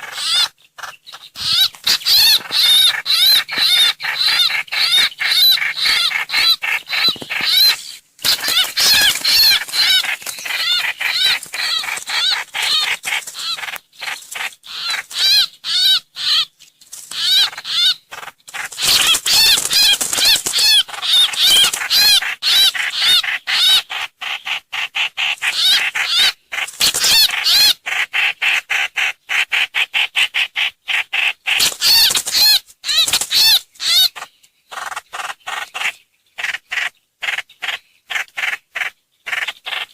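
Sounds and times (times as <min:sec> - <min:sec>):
rapid arched bird calls: 0:00.0 - 0:39.9.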